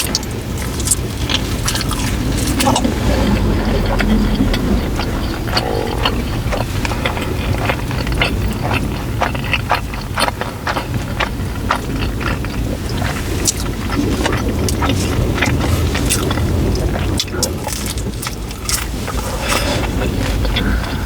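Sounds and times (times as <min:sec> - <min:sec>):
steady low rumble: 0:00.0 - 0:21.0
wet crunchy chewing: 0:00.0 - 0:21.0.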